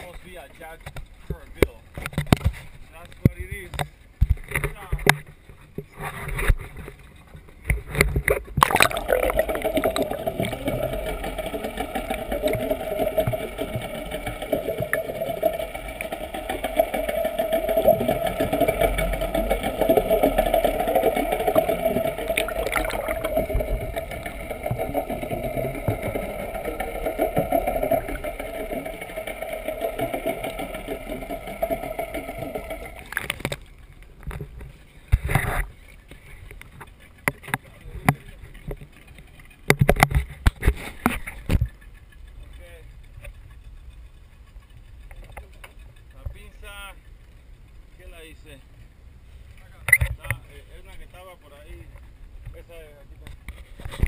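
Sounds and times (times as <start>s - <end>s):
muffled boat engine underwater: 0.0s - 54.0s.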